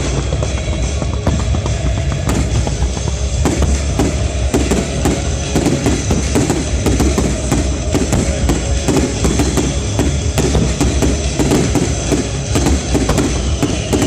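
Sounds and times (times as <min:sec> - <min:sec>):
continuous low rumble: 0:00.0 - 0:14.0
fireworks bangs and crackles: 0:00.0 - 0:14.0.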